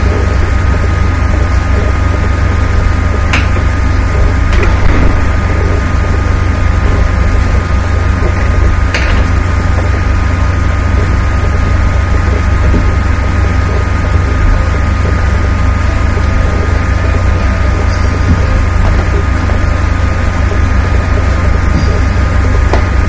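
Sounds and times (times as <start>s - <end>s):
loud low hum with hiss: 0.0s - 23.0s.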